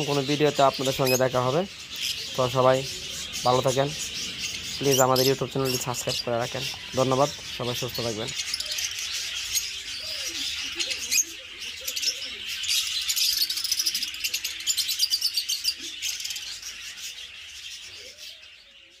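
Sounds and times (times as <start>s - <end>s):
lovebirds chattering: 0.0s - 19.0s.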